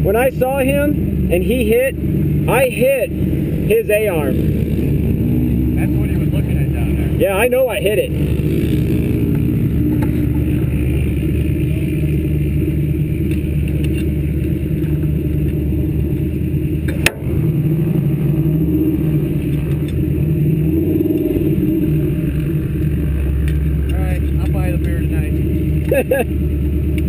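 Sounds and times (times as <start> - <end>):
buggy engine running: 0.0 - 27.0.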